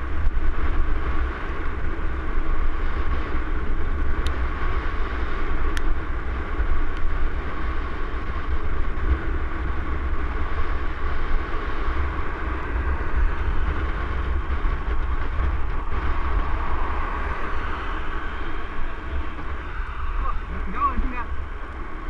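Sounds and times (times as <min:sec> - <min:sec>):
bike tyres rolling on trail: 0:00.0 - 0:22.0
wind buffeting microphone: 0:00.0 - 0:22.0.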